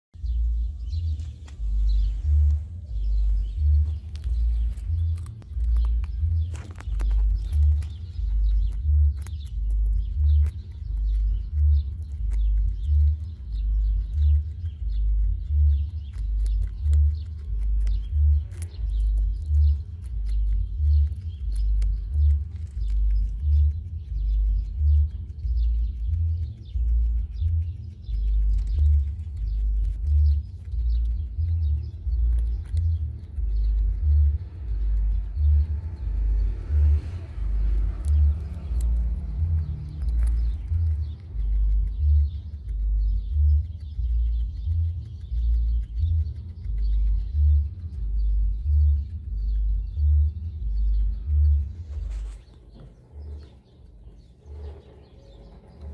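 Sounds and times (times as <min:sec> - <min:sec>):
deep bass pulse: 0:00.0 - 0:55.9
steady low thumping: 0:00.1 - 0:55.9
guinea pig nibbling carrot: 0:00.2 - 0:55.9.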